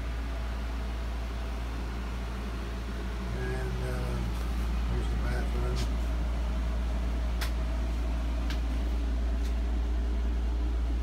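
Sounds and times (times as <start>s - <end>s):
roof vent fan humming: 0.0s - 11.0s.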